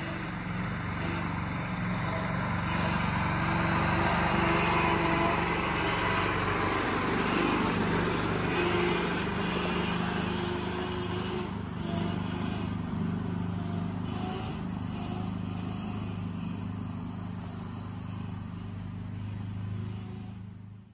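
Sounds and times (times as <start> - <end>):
small engine running: 0.0 - 20.9.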